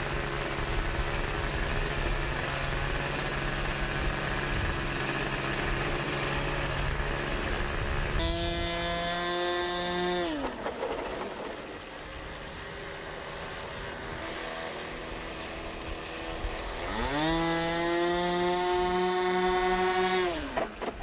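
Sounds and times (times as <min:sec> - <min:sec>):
model airplane engine revving: 0:00.0 - 0:21.0.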